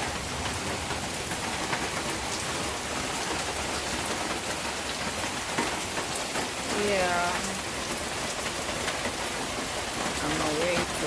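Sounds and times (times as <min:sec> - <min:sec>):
heavy rain hissing: 0:00.0 - 0:11.0
raindrop impacts: 0:00.0 - 0:11.0.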